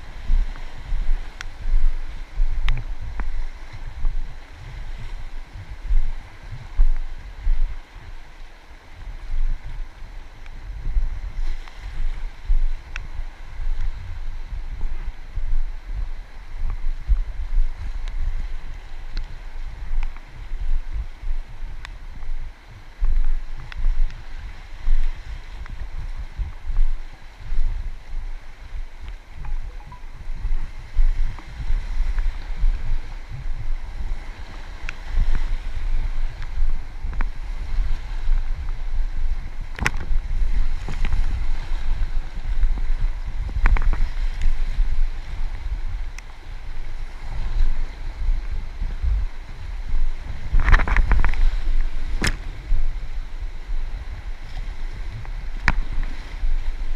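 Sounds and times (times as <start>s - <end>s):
river water rushing: 0.0s - 49.6s
wind buffeting microphone: 0.0s - 56.9s.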